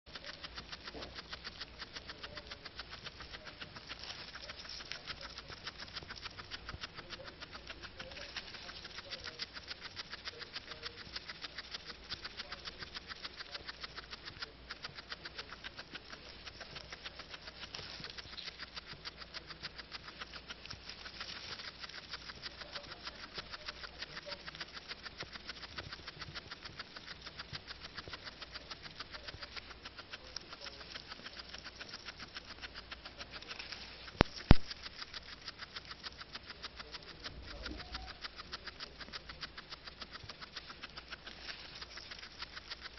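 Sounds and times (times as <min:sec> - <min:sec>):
guinea pig chewing grass: 0:00.0 - 0:42.9.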